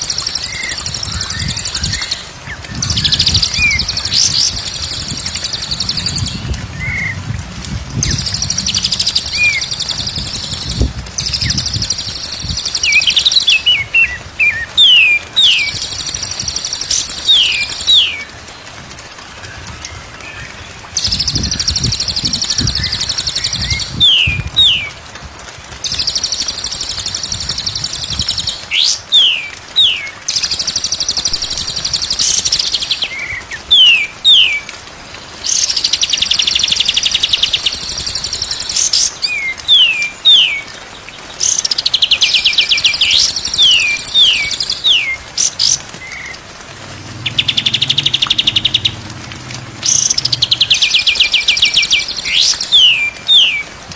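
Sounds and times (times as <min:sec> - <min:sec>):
songbird trilling and whistling: 0:00.0 - 0:07.2, 0:08.0 - 0:18.2, 0:21.0 - 0:24.9, 0:25.8 - 0:34.6, 0:35.5 - 0:40.7, 0:41.4 - 0:46.3, 0:47.2 - 0:49.0, 0:49.8 - 0:53.7.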